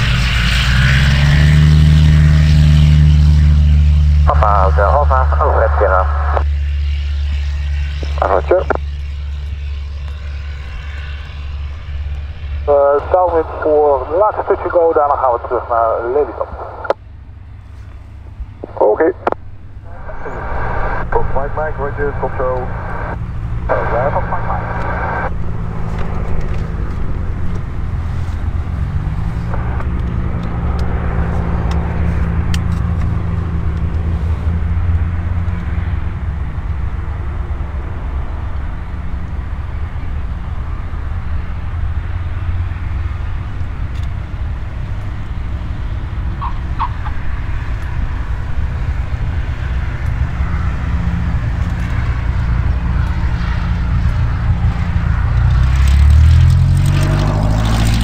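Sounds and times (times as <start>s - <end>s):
aircraft piston engine humming: 0.0s - 58.0s.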